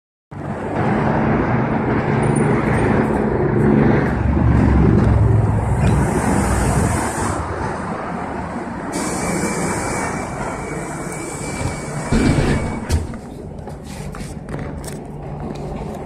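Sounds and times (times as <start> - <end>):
road and tyre rumble: 0.3 - 16.0.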